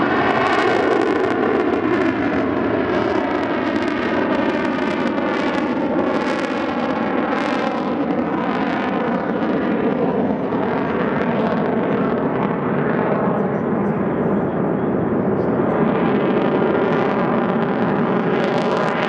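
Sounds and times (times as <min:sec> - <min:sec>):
jet engine roaring overhead: 0:00.0 - 0:19.0.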